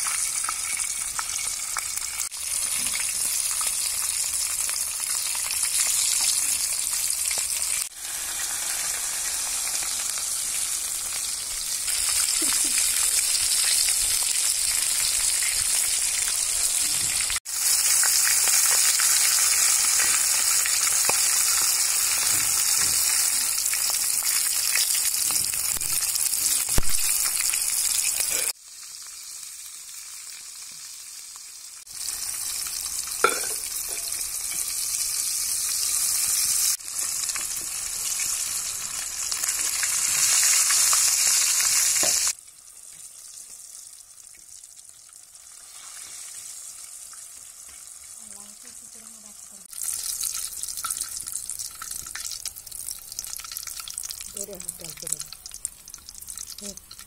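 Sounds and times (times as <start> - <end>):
oil sizzling and spattering: 0.0 - 48.8, 49.6 - 57.0.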